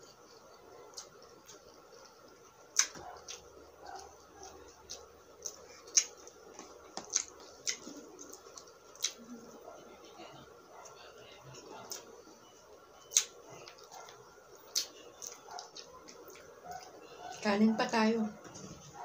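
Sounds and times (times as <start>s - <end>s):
chewing fried fish: 0.0s - 19.0s.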